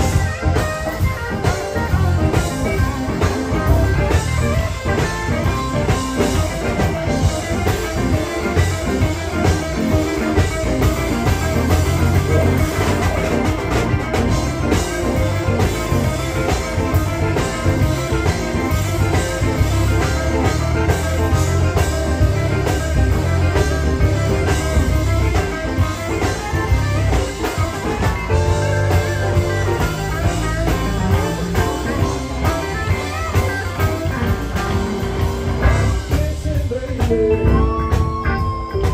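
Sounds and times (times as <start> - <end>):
electric blues band playing: 0.0 - 38.9.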